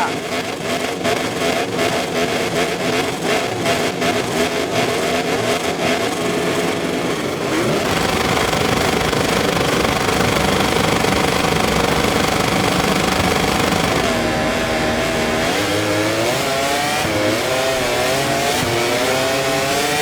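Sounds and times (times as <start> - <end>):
race bike engines revving: 0.0 - 20.0.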